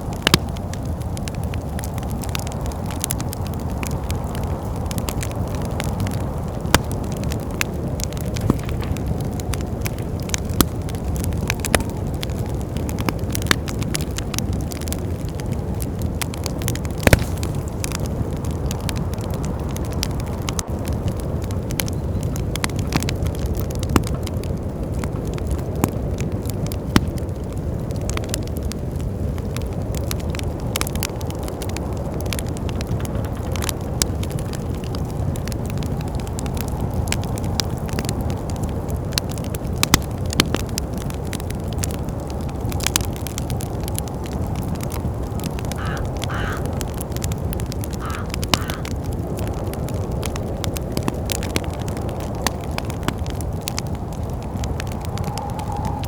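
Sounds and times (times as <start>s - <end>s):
fire pops: 0.0s - 56.0s
low rumble of wind: 0.0s - 56.0s
wood fire crackling: 0.0s - 56.0s.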